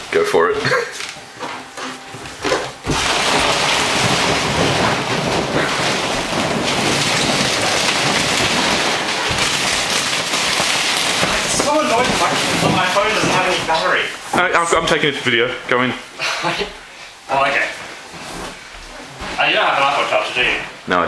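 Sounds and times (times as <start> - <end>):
vinyl rustling and rubbing: 0.4 - 16.1, 16.8 - 20.8.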